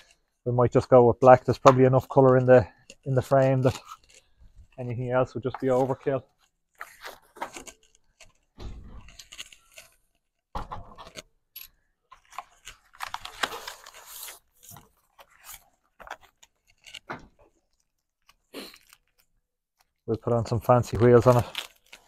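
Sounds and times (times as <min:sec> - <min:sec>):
crunching and rustling handling noises: 0:00.0 - 0:22.0.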